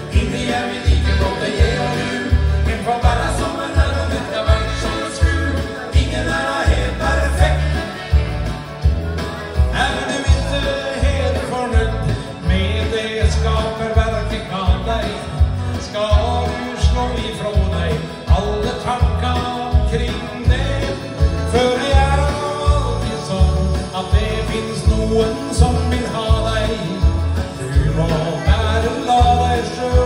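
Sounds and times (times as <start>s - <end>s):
man singing into microphone: 0.0s - 8.9s, 9.7s - 30.0s.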